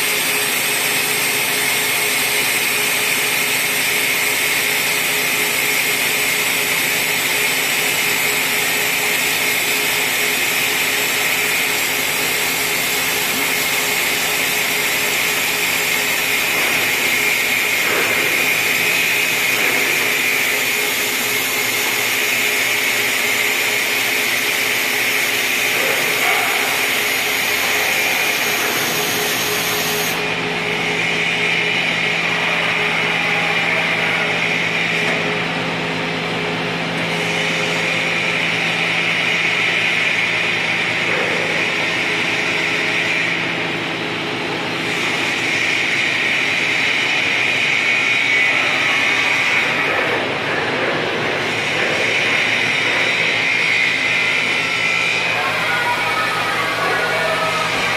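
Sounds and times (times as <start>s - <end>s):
boring mill whirring with hiss: 0.0s - 57.9s.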